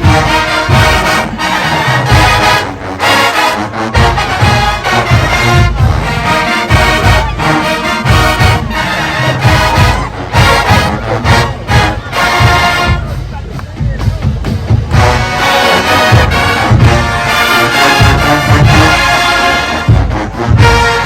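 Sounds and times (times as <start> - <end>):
brass section playing: 0.0 - 13.5, 14.9 - 21.0
low drum beat: 0.0 - 21.0.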